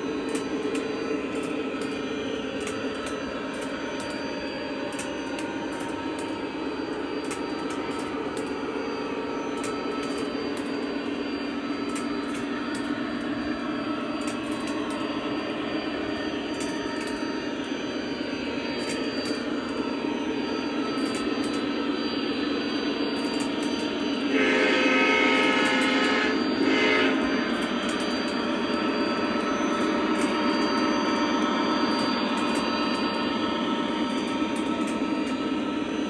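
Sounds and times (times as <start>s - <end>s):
toy train motors whirring: 0.0s - 35.8s
loud pitched locomotive tone: 0.0s - 36.0s.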